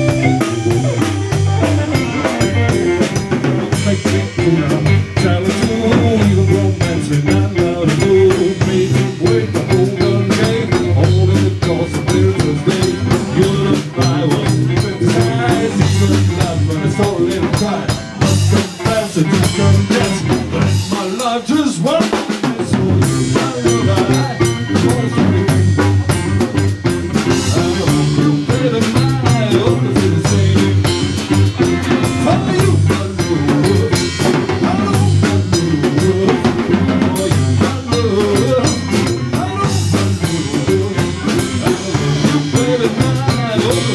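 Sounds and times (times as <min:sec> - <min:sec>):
drum kit: 0:00.0 - 0:43.9
live blues-rock band: 0:00.0 - 0:43.9.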